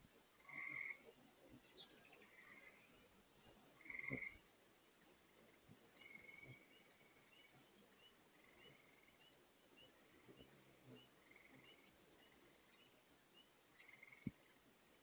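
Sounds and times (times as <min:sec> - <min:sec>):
soft chirp: 0:00.4 - 0:04.9, 0:05.5 - 0:14.6.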